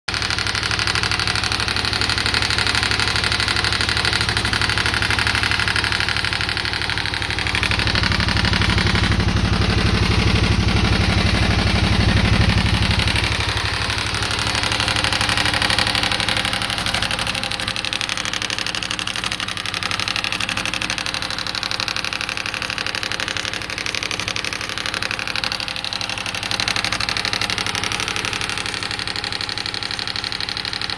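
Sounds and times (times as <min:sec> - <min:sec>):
motorcycle engine running: 0:00.1 - 0:30.9.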